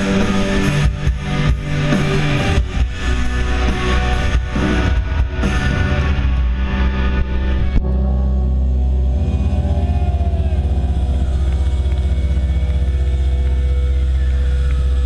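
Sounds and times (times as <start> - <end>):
distorted metal band drone: 0.0 - 15.0.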